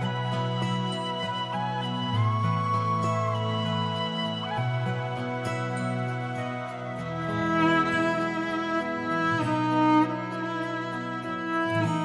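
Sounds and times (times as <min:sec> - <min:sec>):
slow sad music: 0:00.0 - 0:12.0.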